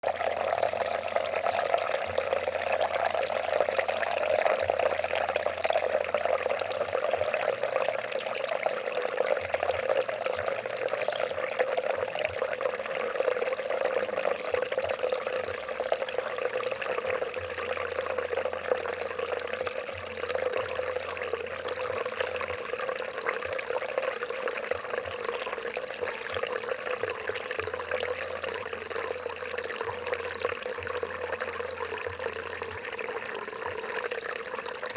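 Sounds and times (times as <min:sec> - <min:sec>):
water gurgling and trickling: 0:00.0 - 0:34.9.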